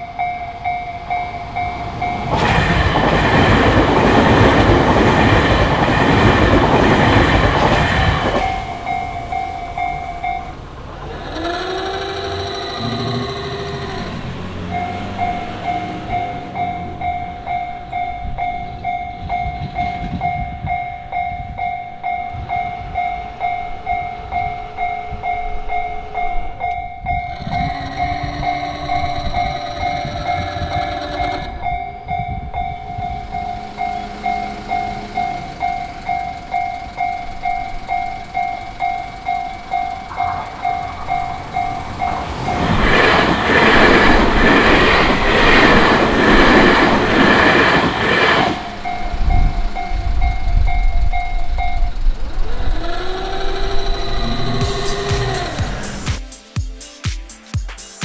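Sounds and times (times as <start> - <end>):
level crossing warning bell: 0.0 - 56.2
train passing loudly: 0.0 - 56.6.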